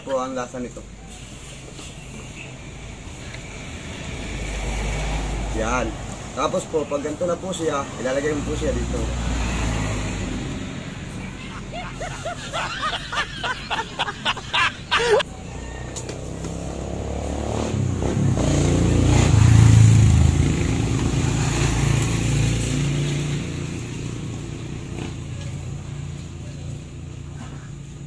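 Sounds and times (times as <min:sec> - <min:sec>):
vehicle engine rumble passing: 0:00.6 - 0:28.0.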